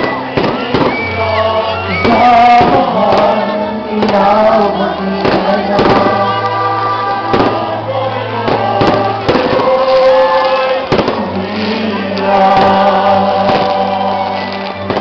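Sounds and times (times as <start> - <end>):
firework bangs: 0.0 - 1.4, 2.0 - 15.0
choir singing song: 0.0 - 15.0.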